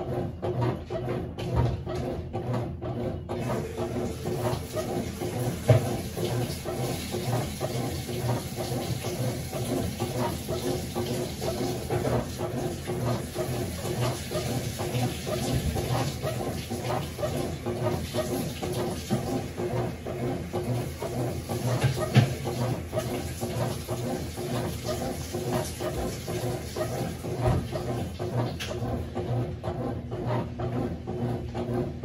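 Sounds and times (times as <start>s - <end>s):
washing machine water swishing: 0.0s - 32.0s.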